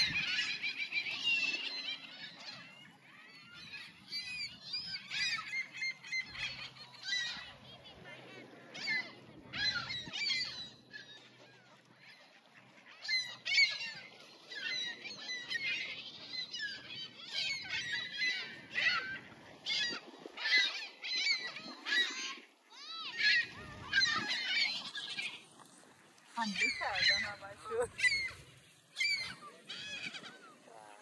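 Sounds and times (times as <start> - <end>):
gulls and geese calling: 0.0 - 31.0.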